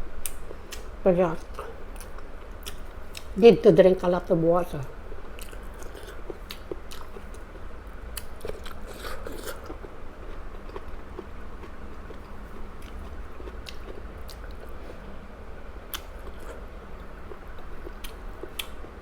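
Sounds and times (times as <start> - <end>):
steady low hum: 0.0 - 19.0
person chewing food: 0.2 - 3.4, 5.2 - 15.2, 15.9 - 19.0.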